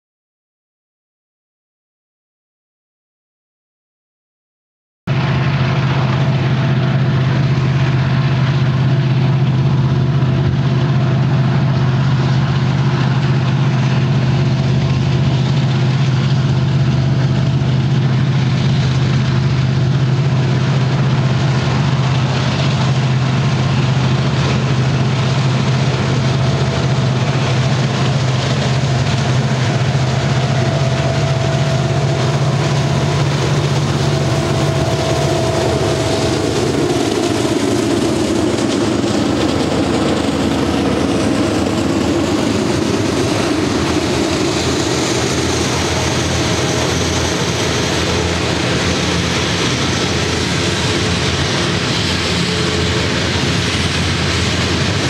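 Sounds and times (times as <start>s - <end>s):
diesel locomotives passing: 5.1s - 55.0s.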